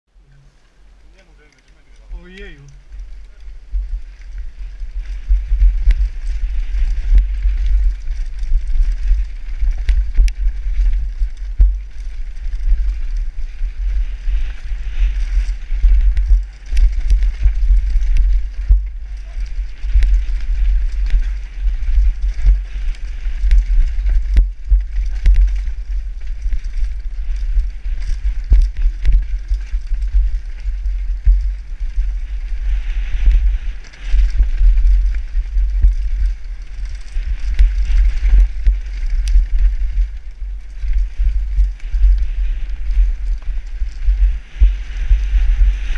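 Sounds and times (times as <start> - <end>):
wind rumble on microphone: 0.1 - 45.9
tyre noise on dirt: 1.1 - 45.9
bike clacking and rattling: 1.5 - 42.0.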